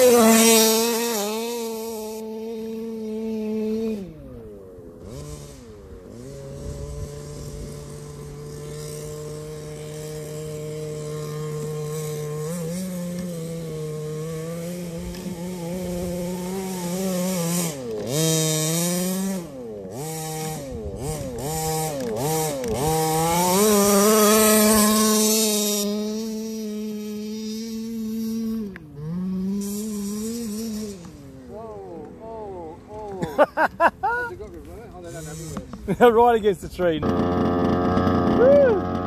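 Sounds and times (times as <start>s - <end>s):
small two-stroke engine revving: 0.0s - 39.0s.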